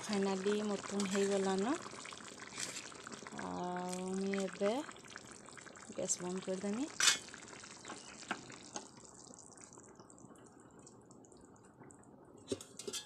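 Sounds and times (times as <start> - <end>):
curry bubbling in a pan: 0.0 - 12.4.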